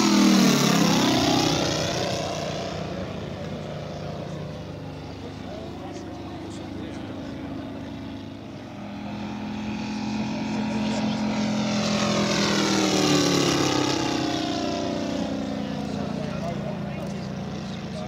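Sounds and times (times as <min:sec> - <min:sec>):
model airplane engine flying past: 0:00.0 - 0:18.0.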